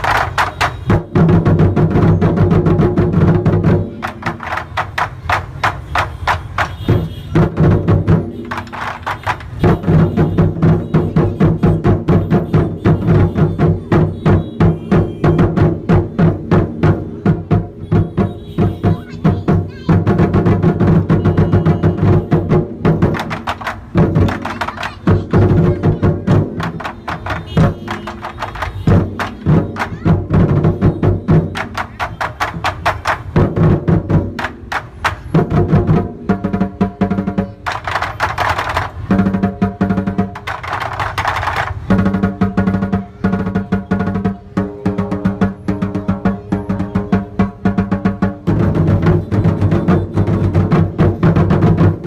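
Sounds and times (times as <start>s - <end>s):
fast drumming with percussion: 0.0s - 52.0s.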